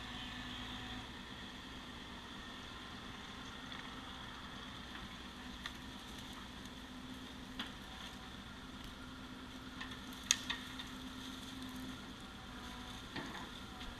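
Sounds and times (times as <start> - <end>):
excavator engine humming: 0.0 - 13.9.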